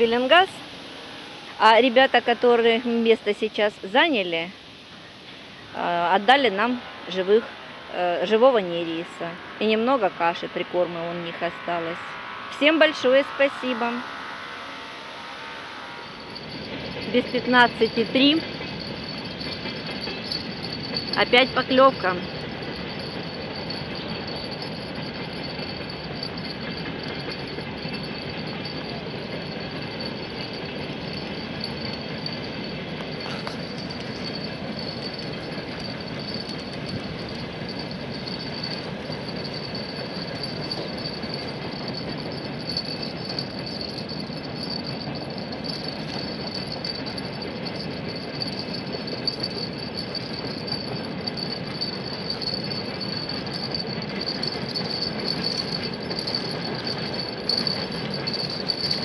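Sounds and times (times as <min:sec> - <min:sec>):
freight train on steel bridge: 0:00.0 - 0:59.0.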